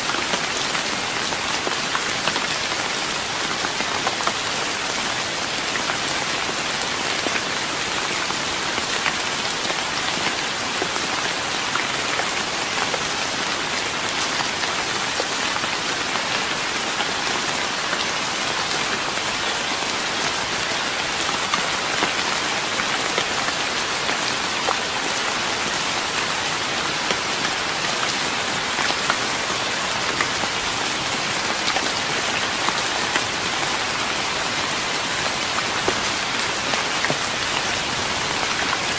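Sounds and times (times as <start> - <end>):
rain on a wooden deck: 0.0 - 38.9.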